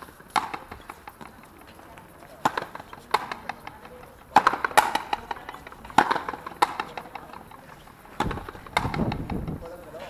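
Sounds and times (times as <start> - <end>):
ball struck by rackets: 0.0 - 9.7
ball bouncing off wall: 0.3 - 9.7.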